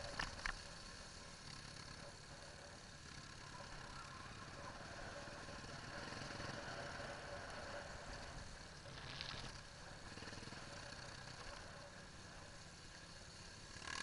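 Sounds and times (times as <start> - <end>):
motorcycle engine running: 0.0 - 14.0
steady rumble: 0.0 - 14.0.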